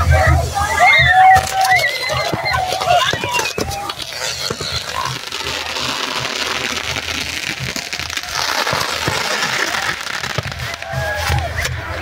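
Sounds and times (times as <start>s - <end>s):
fireworks hissing and crackling: 0.0s - 12.0s.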